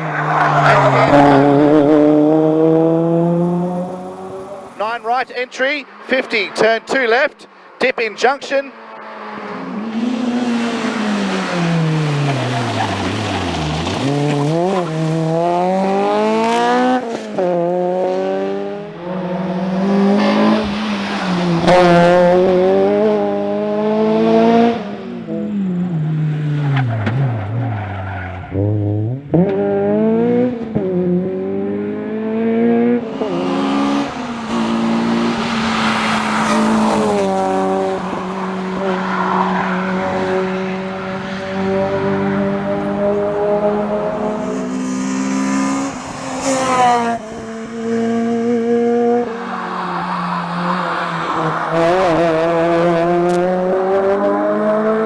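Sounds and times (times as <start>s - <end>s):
car engine revving: 0.0s - 7.3s, 8.7s - 55.0s.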